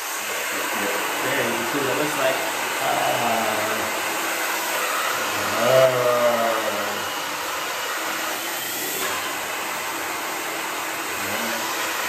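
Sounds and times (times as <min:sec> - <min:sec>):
hair dryer blowing air: 0:00.0 - 0:12.0.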